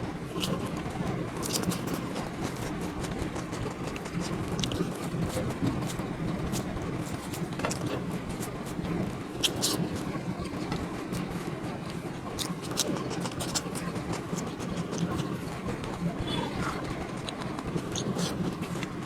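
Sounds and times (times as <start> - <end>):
background rumble and hubbub: 0.0 - 19.0.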